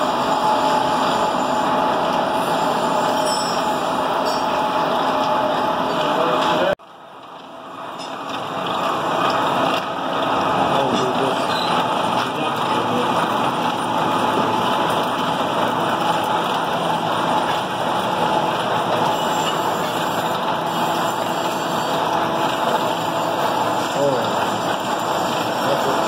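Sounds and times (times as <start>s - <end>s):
workshop machine running: 0.0s - 26.0s.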